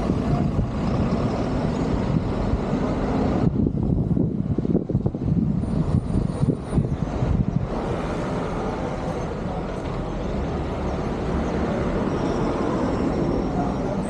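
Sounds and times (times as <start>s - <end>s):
vehicle running rumble: 0.0s - 14.0s.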